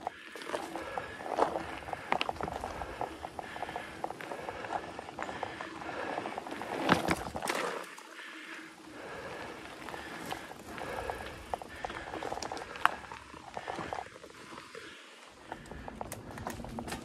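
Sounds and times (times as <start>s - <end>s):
bike rattling and clicking: 0.0s - 17.0s
bike tyres rolling on dirt: 0.0s - 17.0s.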